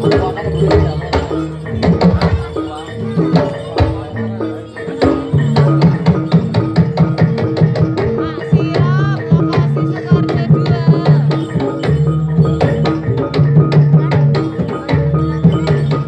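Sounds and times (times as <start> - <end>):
hand drums beating: 0.0 - 16.0
wavering high melody: 0.0 - 16.0.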